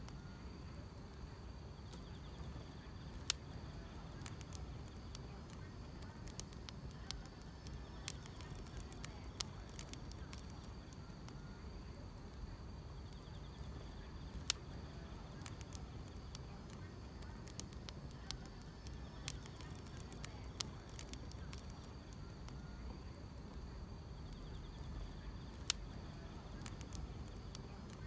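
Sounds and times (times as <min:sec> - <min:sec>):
insects chirring: 0:00.0 - 0:28.0
wood fire crackling and popping: 0:00.0 - 0:28.0.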